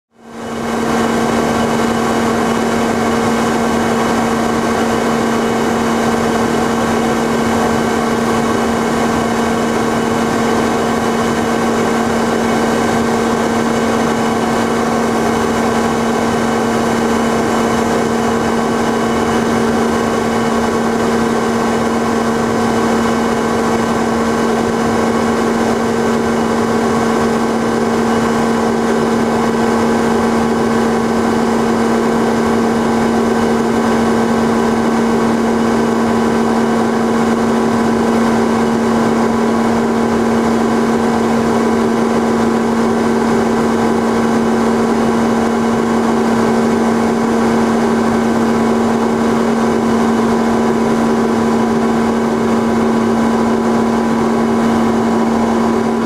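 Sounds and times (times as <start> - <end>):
propeller plane engine drone: 0.1 - 56.0.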